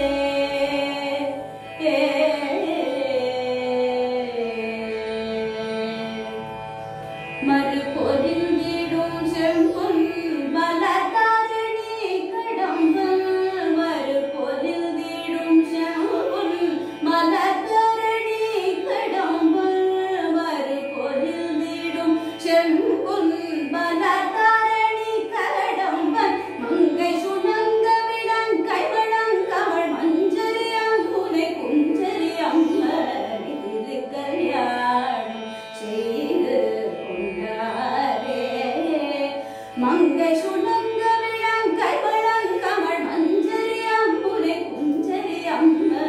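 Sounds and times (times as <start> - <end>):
woman singing: 0.0 - 6.3, 7.4 - 46.0
tanpura drone: 0.0 - 46.0.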